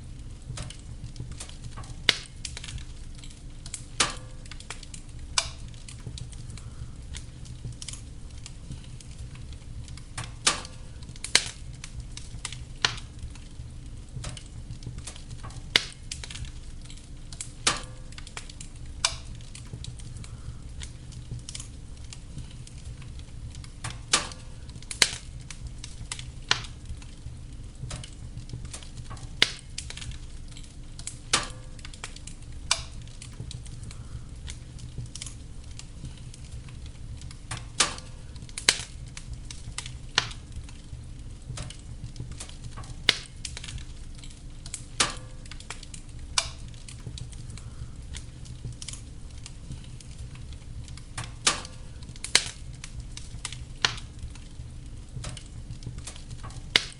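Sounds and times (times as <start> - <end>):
fire crackling and popping: 0.0 - 56.9
fire flames rumbling: 0.0 - 56.9.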